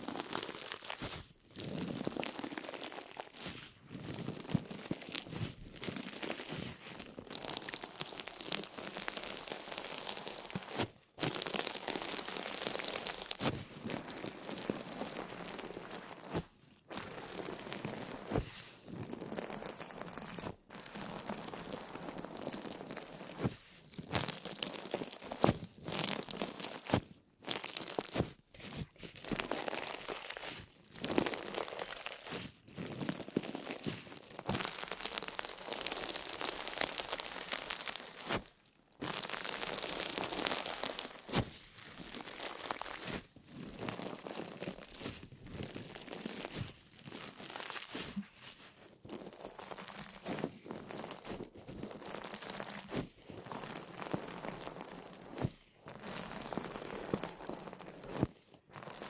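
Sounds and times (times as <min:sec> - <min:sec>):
crisp crinkling and crunching: 0:00.0 - 0:59.0.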